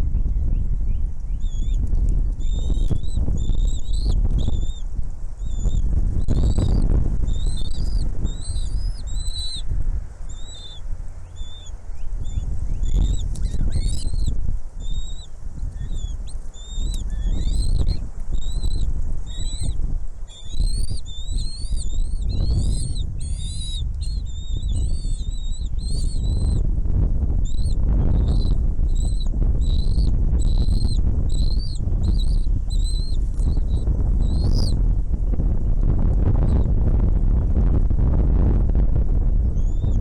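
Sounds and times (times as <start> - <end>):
small birds chirping: 0.0 - 26.7, 27.3 - 35.5, 36.3 - 36.9, 39.4 - 40.0
steady low rumble: 0.0 - 40.0.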